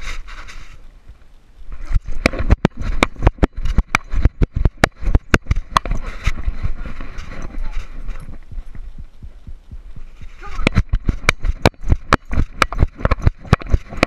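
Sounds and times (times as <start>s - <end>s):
rustling noise: 0.0s - 14.0s
camera knocking and rattling: 1.8s - 14.0s.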